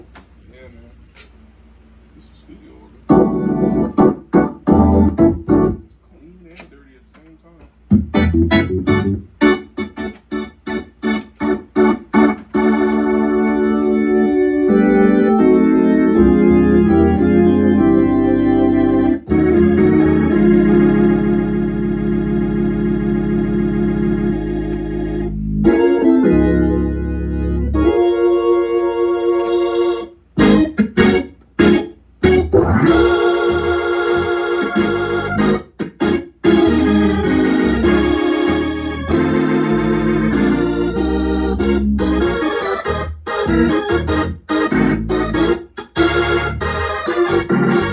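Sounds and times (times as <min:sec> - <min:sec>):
organ chords through rotating speaker: 0:01.2 - 0:47.9
bass line: 0:03.1 - 0:05.9, 0:07.6 - 0:47.9.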